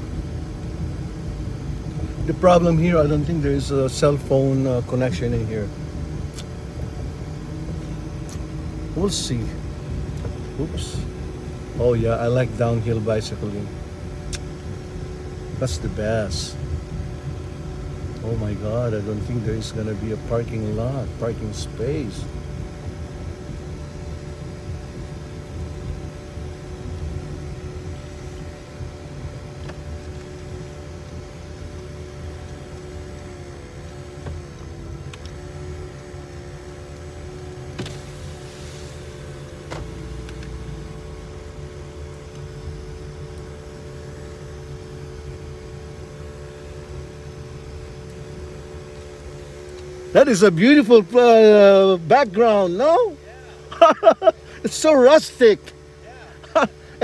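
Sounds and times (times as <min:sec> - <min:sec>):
engine and tyre rumble: 0:00.0 - 0:57.0
faint steady hum: 0:00.0 - 0:57.0.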